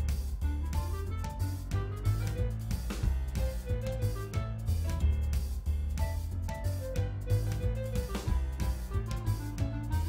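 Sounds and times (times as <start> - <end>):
drum beat: 0.0 - 10.0
instrumental music: 0.0 - 10.0.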